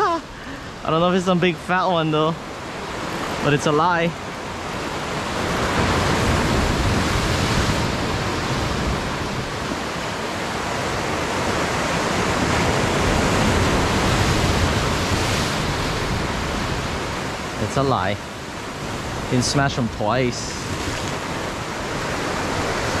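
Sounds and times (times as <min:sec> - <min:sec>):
ocean surf washing over rocks: 0:00.0 - 0:23.0.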